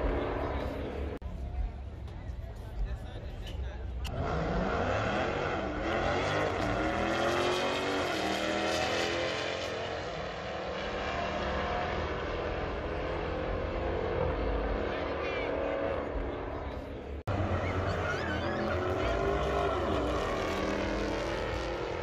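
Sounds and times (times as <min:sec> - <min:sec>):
race car engine accelerating: 0:04.0 - 0:22.0.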